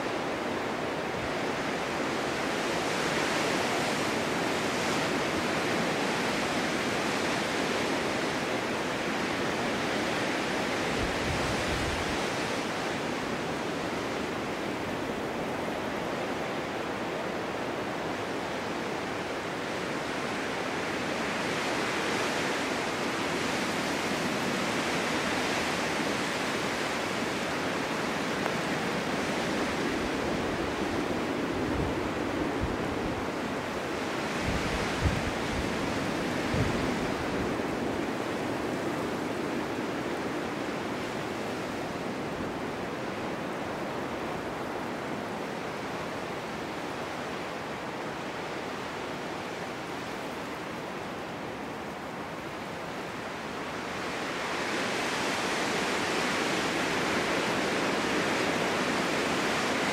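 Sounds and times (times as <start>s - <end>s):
snowstorm wind rushing: 0.0s - 59.9s.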